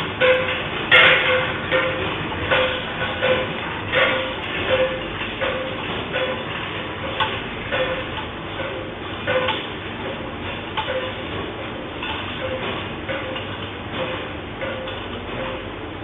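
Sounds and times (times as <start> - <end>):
objects knocking and rattling: 0.0 - 15.6.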